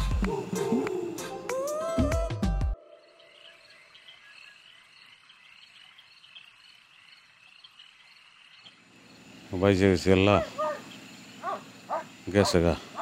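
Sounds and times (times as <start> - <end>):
insects chirring: 0.0 - 2.0, 2.8 - 13.0
frogs chirping: 0.1 - 1.5, 2.8 - 13.0.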